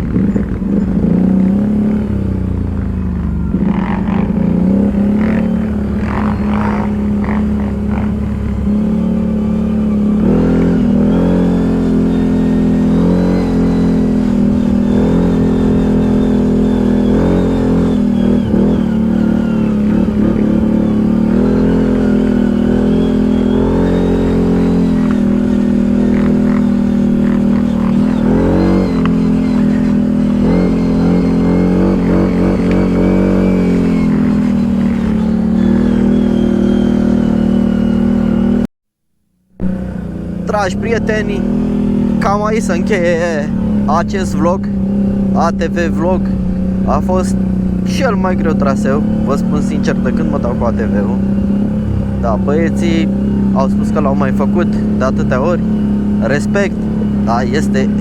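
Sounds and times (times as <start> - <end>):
atv engine revving: 0.0 - 38.7, 39.5 - 58.0.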